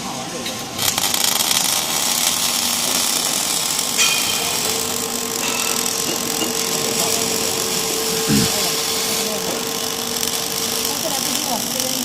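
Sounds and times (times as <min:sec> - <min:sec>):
welding arc crackling hiss: 0:00.8 - 0:12.0.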